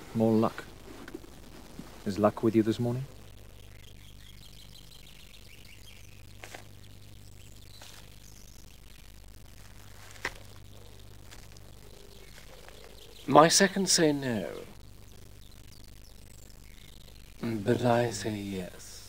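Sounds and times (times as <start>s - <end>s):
faint birdsong: 0.0s - 19.0s
steady low hum: 0.0s - 19.0s.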